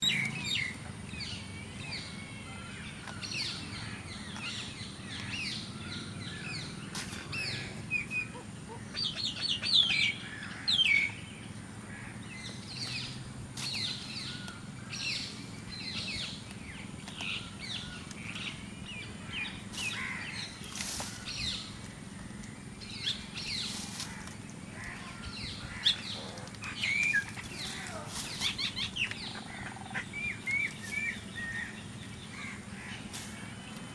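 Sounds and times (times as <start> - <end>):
flock of birds chattering: 0.0 - 33.9.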